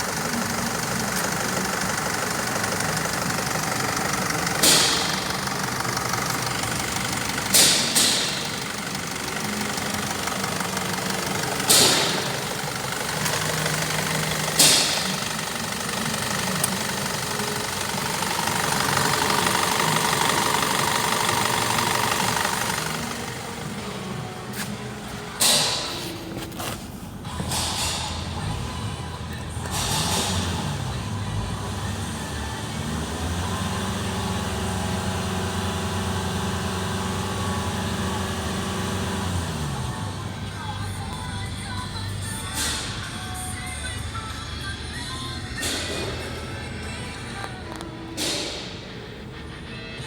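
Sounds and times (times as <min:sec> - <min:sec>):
diesel engine idling and revving: 0:00.0 - 0:50.0.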